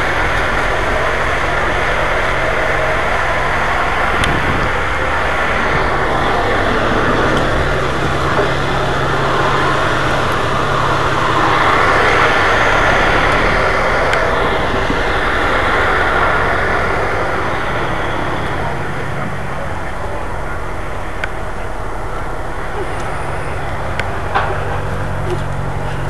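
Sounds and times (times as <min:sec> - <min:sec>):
boat diesel engine hum: 0:00.0 - 0:26.0
dense rushing noise: 0:00.0 - 0:26.0.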